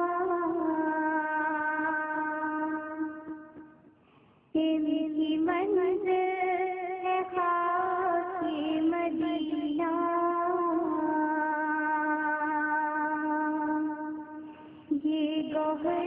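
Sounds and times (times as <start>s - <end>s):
woman singing into a microphone: 0.0s - 3.8s, 4.5s - 16.0s.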